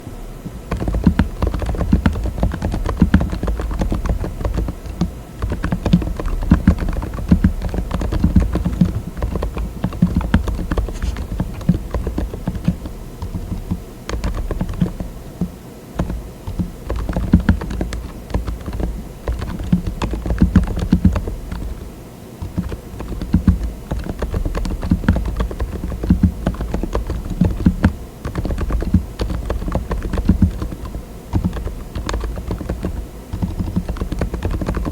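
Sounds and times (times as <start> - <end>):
dampened mechanical keyboard typing: 0.5 - 34.9.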